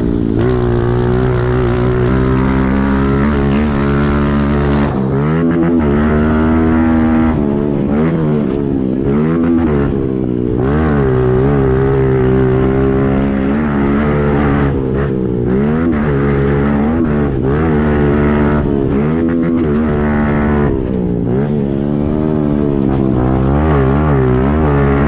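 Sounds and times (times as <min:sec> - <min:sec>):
motorbike engine revving: 0:00.0 - 0:25.0.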